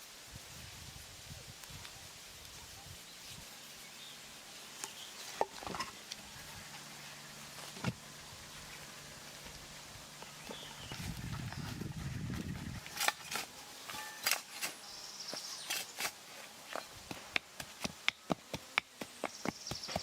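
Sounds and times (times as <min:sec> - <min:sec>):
fly buzzing: 0:03.3 - 0:20.0.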